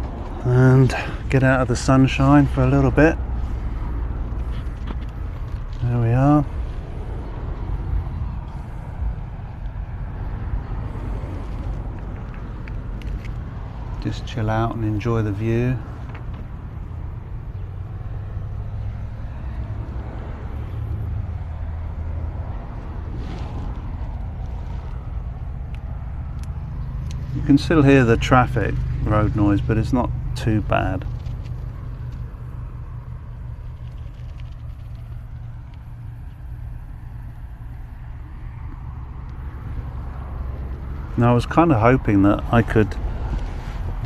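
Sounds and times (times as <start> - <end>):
road traffic rumble: 0.0 - 44.0.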